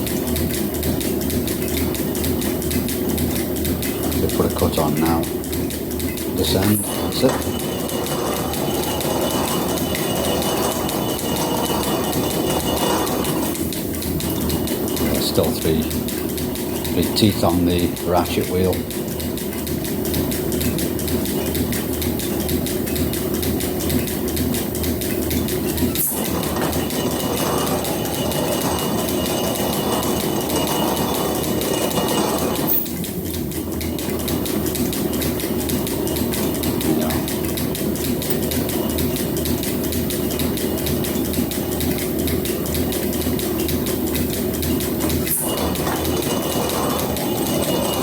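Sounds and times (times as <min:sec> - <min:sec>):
fast regular clatter: 0:00.0 - 0:48.0
metal planer pulsing machine noise: 0:00.0 - 0:48.0.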